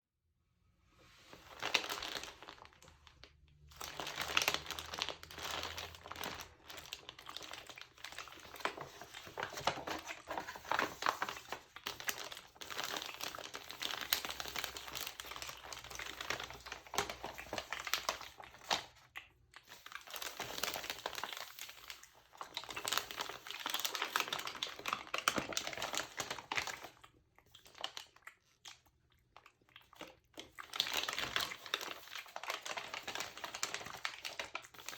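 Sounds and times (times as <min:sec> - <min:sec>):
magazine pages crumpled by hand: 0:01.3 - 0:19.0, 0:19.8 - 0:27.0, 0:30.7 - 0:34.9.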